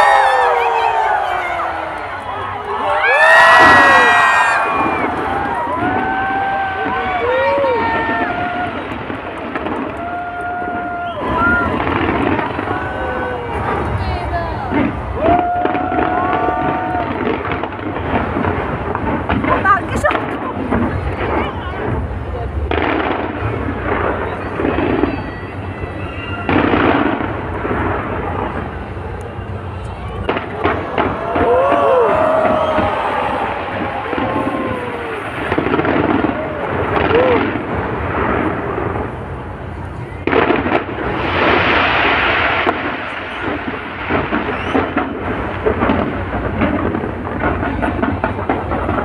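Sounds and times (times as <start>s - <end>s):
continuous rumble: 0.0s - 49.0s
fireworks booming and crackling: 0.0s - 49.0s.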